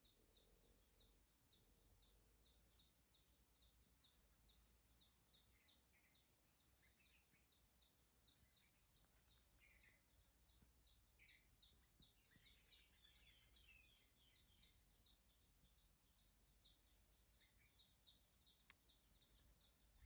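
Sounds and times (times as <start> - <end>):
faint high bird chirps: 0.0 - 20.0
lower bird chirps: 0.0 - 20.0.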